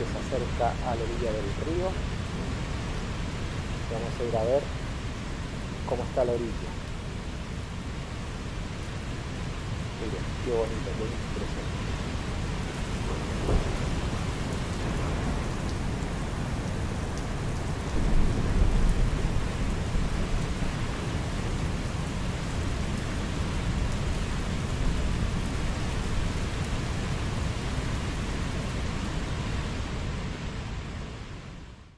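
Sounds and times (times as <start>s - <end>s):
rain falling: 0.0s - 31.9s
river rushing: 0.0s - 31.9s.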